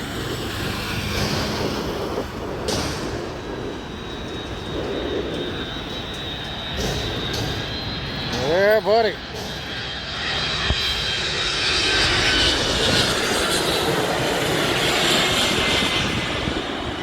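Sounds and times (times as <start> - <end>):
high jet engine whine: 0.0 - 17.0
jet engines rumbling: 0.0 - 17.0.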